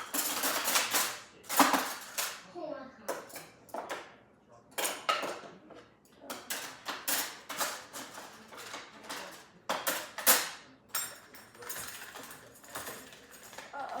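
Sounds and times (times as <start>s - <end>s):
dishes and cutlery clattering: 0.0s - 14.0s.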